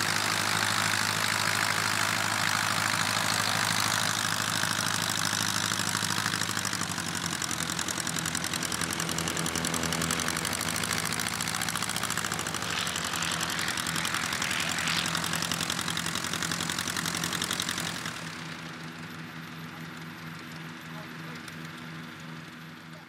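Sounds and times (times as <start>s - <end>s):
propeller plane engine idling: 0.0s - 23.0s.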